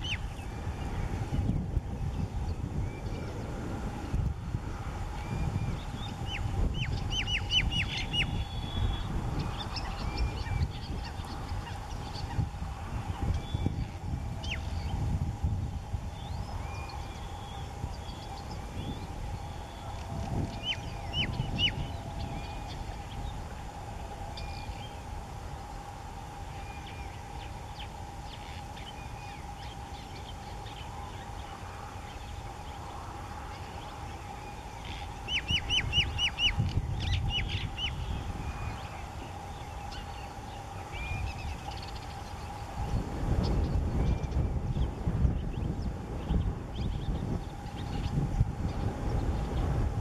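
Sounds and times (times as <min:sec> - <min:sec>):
low wind rumble: 0:00.0 - 0:50.0
steady hum: 0:00.0 - 0:50.0.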